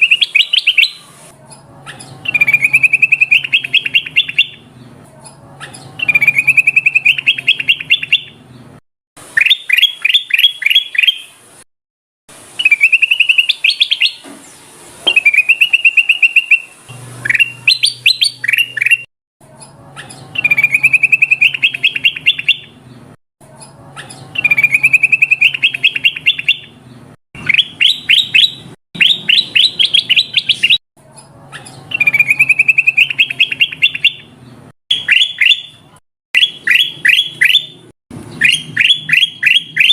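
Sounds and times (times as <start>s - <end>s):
bird song trills: 0.0s - 1.1s, 1.9s - 5.0s, 5.7s - 8.7s, 9.4s - 11.3s, 12.6s - 30.8s, 31.6s - 39.9s.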